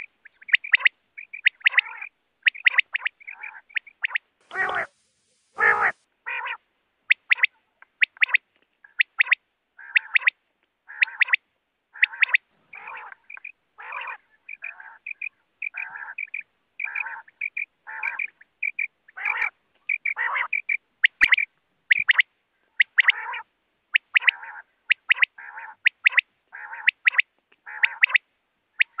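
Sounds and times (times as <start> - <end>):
quail calling: 0.0 - 29.0.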